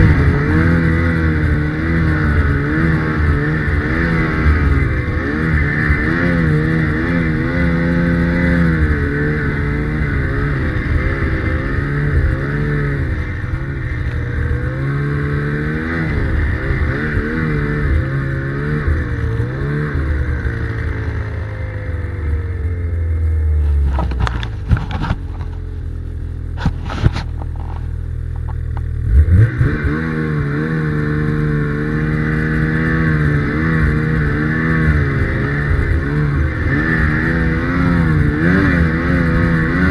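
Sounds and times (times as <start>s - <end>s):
snowmobile engine revving: 0.0s - 25.2s, 28.9s - 39.9s.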